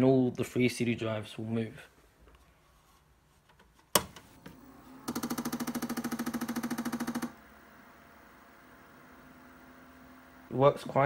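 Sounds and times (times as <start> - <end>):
faint steady hum: 1.6 - 11.0.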